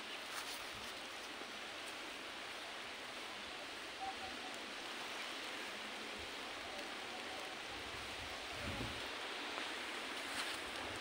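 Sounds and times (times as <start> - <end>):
rain falling on leaves: 0.0 - 11.0.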